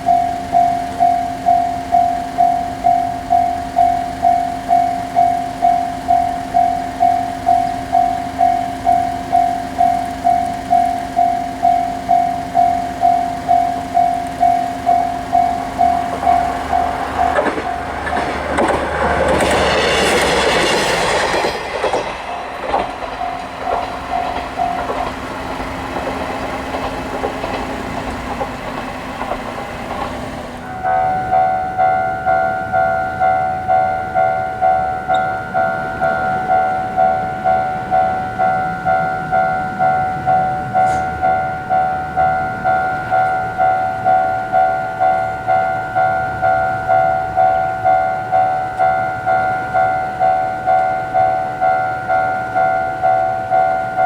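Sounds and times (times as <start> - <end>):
higher-toned crossing bell: 0.0 - 29.3, 30.6 - 54.0
level crossing warning bell: 0.0 - 54.0
train passing: 0.0 - 54.0.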